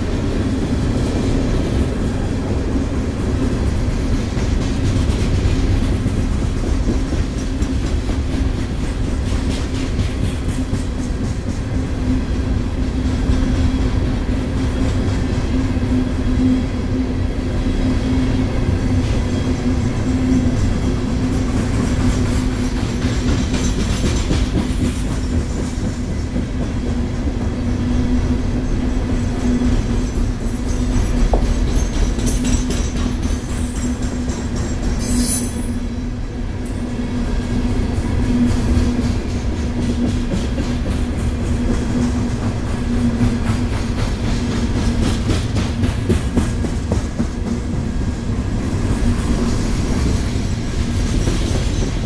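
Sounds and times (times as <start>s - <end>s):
train wheels clattering on rails: 0.0s - 52.0s.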